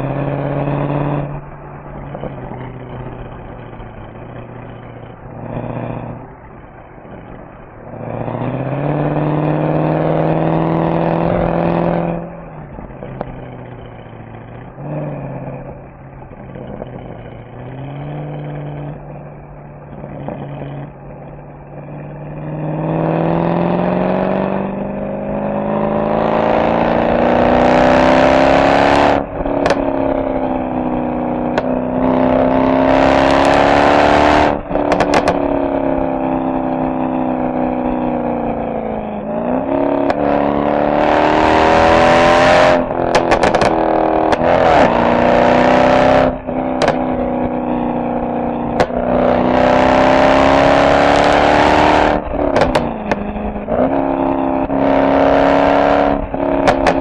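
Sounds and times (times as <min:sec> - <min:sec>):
car engine accelerating: 0:00.0 - 0:57.0
exhaust crack at upshift: 0:00.0 - 0:57.0.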